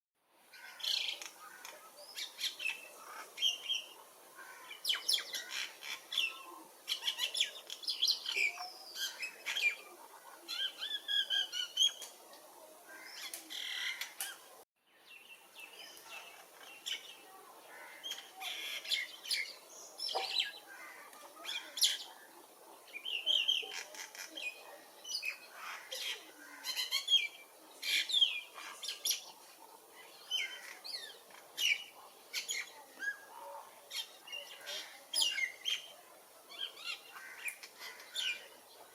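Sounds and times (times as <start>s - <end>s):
songbirds chirping and singing: 0.5s - 38.9s.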